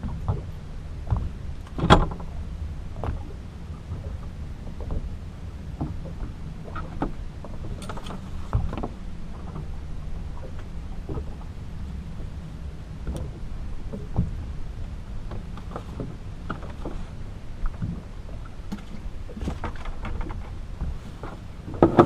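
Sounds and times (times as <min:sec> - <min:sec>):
motorboat engine rumble: 0:00.0 - 0:22.0.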